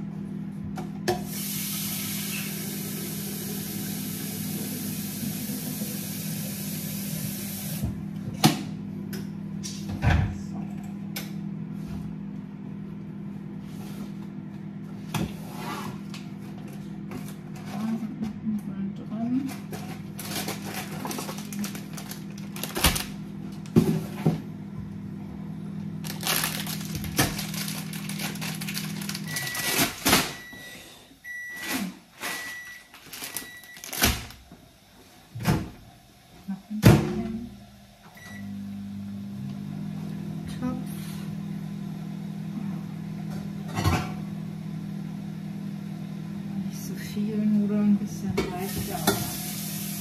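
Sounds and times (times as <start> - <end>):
kitchen appliance humming: 0.0 - 50.0.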